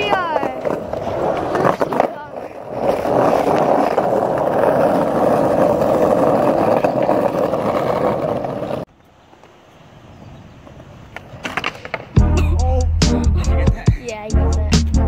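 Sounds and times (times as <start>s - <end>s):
skateboard wheels rolling on asphalt: 0.0s - 12.3s.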